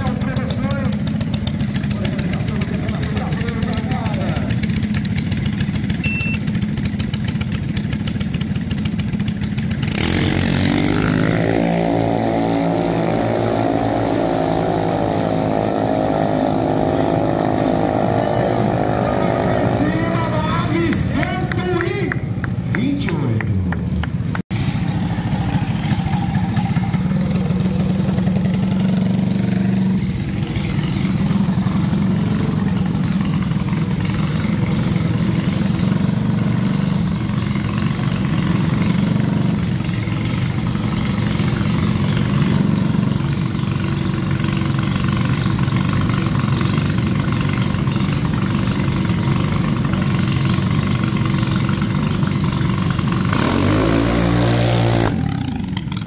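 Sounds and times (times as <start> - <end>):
dragster engine running steadily: 0.0 - 56.0.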